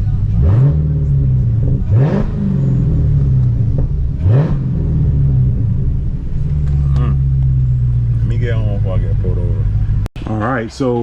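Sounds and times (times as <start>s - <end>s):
loud car engine revving: 0.0s - 10.1s.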